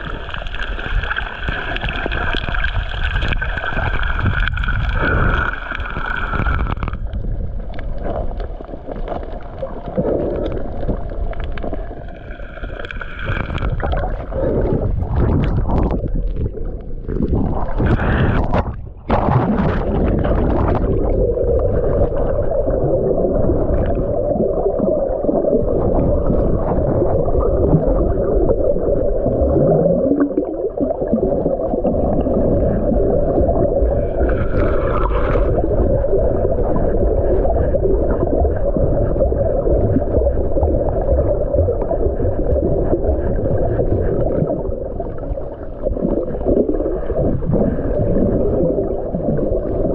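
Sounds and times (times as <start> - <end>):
water gurgling: 0.0 - 49.9.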